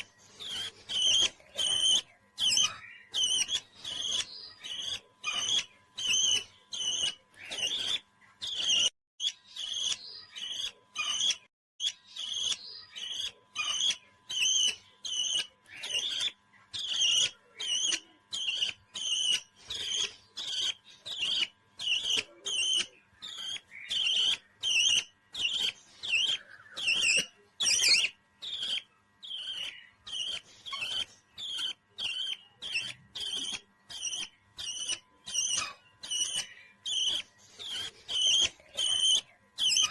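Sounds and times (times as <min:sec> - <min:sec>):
parrot chirping: 0:00.0 - 0:39.9.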